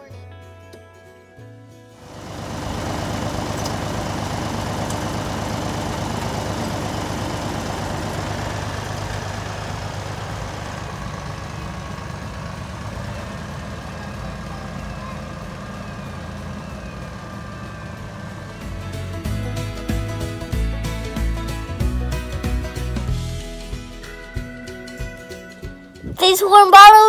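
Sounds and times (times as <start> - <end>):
tractor diesel engine running: 2.0 - 27.0.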